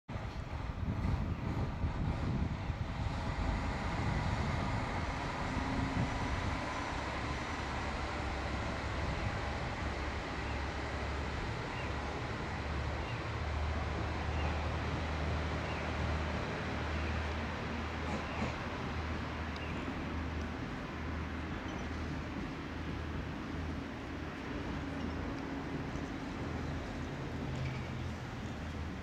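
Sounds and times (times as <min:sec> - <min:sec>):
diesel railcar engine: 0:00.1 - 0:29.0
steady low drone: 0:00.1 - 0:29.0
train running noise: 0:00.1 - 0:29.0.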